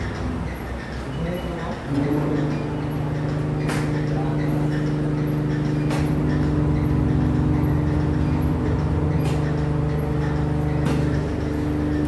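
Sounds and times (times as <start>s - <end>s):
machine electrical hum: 0.0s - 12.0s.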